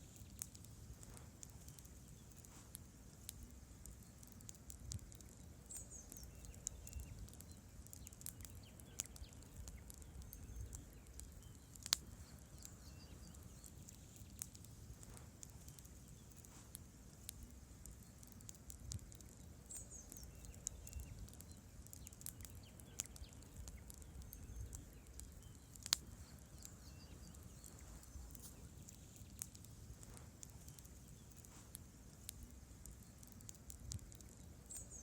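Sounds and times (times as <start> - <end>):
campfire crackling and popping: 0.0 - 35.0
low rumble of fire: 0.0 - 35.0.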